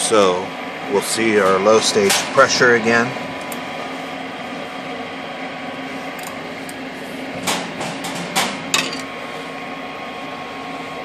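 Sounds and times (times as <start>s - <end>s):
furnace motor humming: 0.0s - 11.0s.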